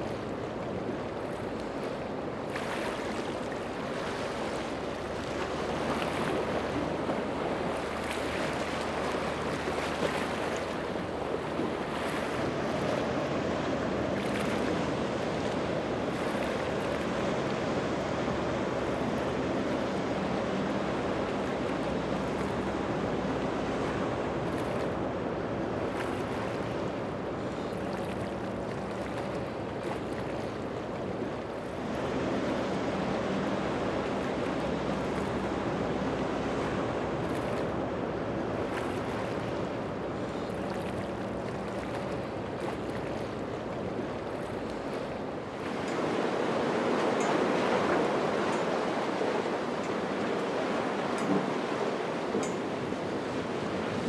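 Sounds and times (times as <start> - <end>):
outboard boat engines droning: 0.0 - 54.0
spray and waves rushing: 0.0 - 54.0
wind: 0.0 - 54.0.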